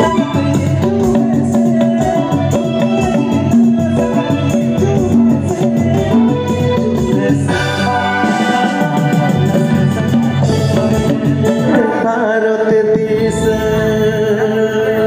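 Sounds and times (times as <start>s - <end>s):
electronic keyboard notes: 0.0s - 15.0s.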